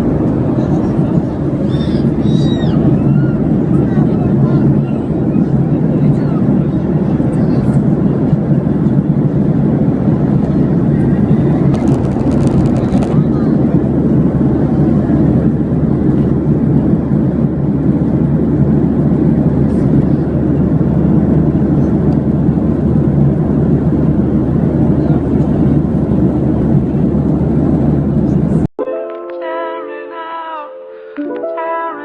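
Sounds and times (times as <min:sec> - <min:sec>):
airliner engine rumble in cabin: 0:00.0 - 0:28.7.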